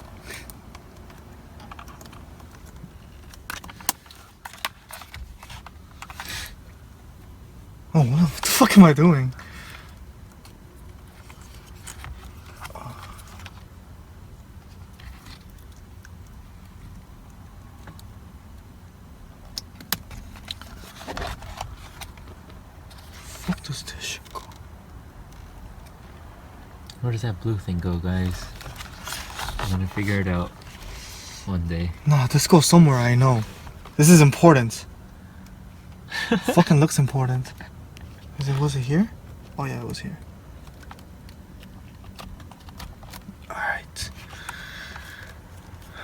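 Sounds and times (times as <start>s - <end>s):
low steady rumble: 0.0s - 46.0s.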